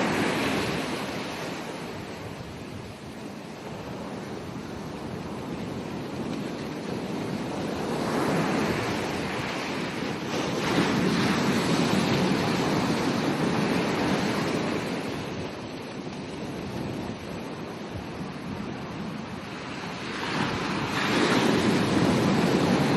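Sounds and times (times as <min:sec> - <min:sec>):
ocean waves breaking: 0:00.0 - 0:22.9
wind on microphone: 0:00.0 - 0:22.9.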